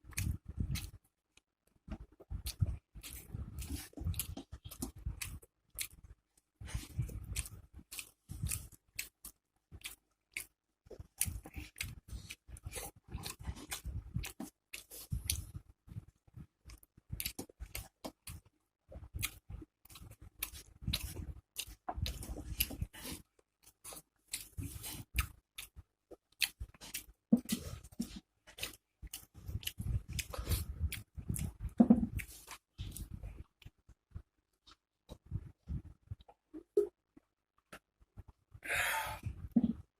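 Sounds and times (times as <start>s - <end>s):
person chewing and crunching: 0.0s - 36.4s.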